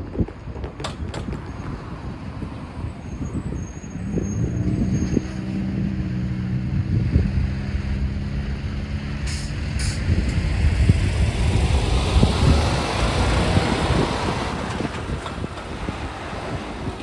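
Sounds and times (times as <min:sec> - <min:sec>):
large engine humming: 0:00.1 - 0:17.0.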